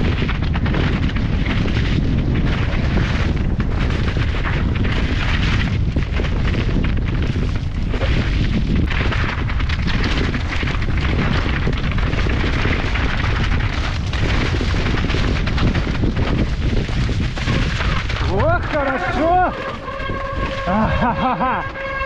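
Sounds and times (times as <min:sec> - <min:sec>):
mountain bike rumble and rattle: 0:00.0 - 0:22.0
wind rushing over microphone: 0:00.0 - 0:22.0.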